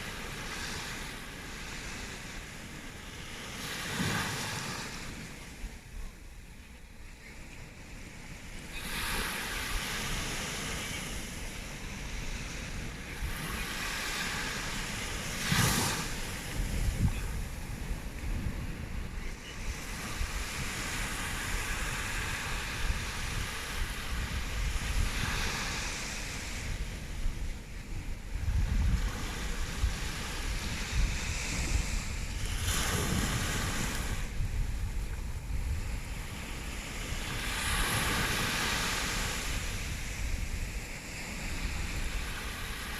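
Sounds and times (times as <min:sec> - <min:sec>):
ocean surf washing onto beach: 0:00.0 - 0:42.9
wind rumbling on microphone: 0:00.0 - 0:42.9.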